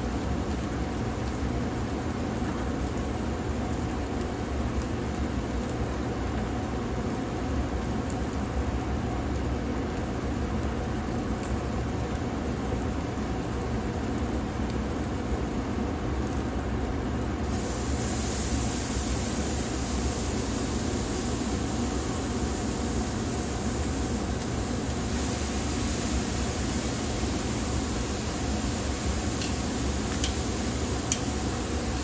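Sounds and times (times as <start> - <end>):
ribs sizzling on a grill: 0.0 - 32.0.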